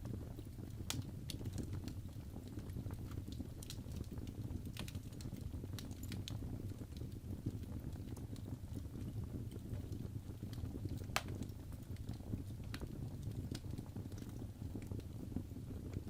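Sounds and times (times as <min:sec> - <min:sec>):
fire crackles and pops: 0:00.0 - 0:16.0
low rumble of flames: 0:00.0 - 0:16.0.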